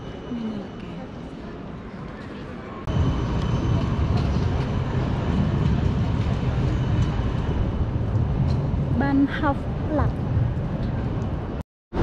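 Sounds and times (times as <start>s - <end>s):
traffic: 0.0s - 12.0s
trams: 0.0s - 12.0s.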